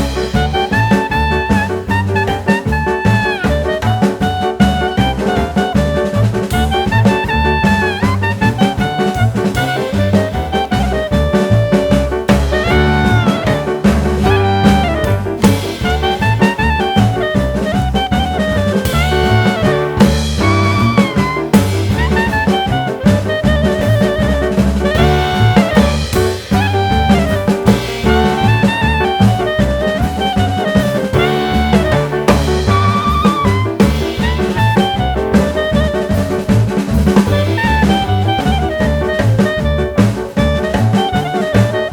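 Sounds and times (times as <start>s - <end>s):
upbeat jazz music: 0.0s - 41.9s.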